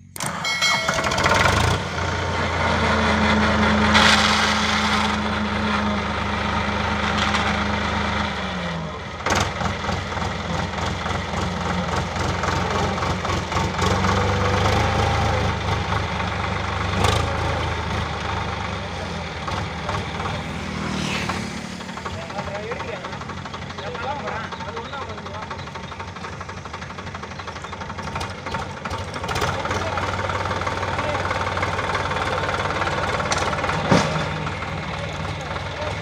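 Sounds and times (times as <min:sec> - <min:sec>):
tractor diesel engine straining: 0:00.0 - 0:36.0.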